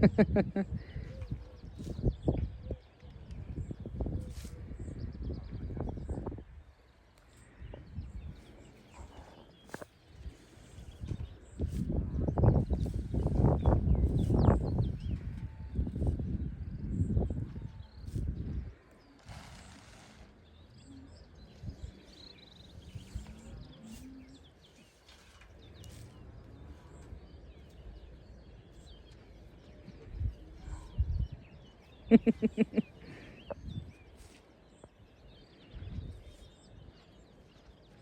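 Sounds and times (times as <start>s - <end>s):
small birds chirping: 0.1s - 38.0s.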